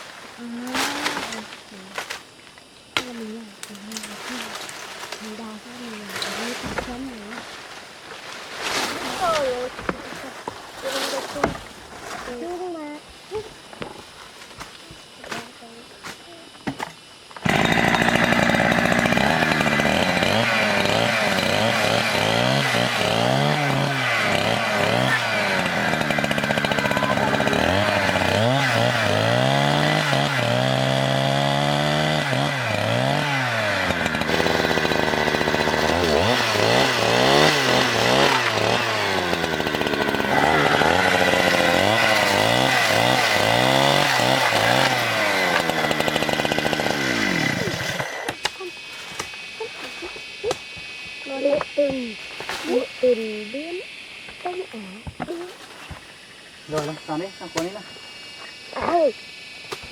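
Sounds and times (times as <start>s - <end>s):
chainsaw revving: 0.6s - 2.2s, 2.9s - 7.6s, 17.4s - 59.9s.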